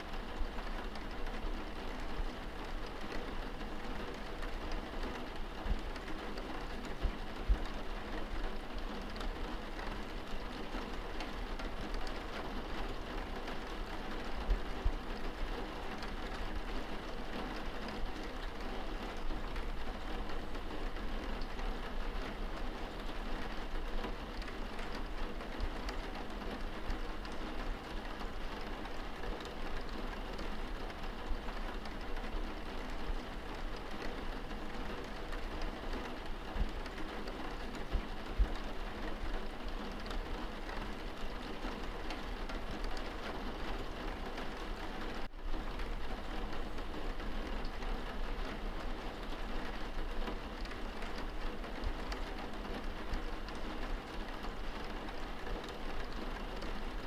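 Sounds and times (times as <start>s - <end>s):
rain hitting window glass: 0.1s - 57.0s.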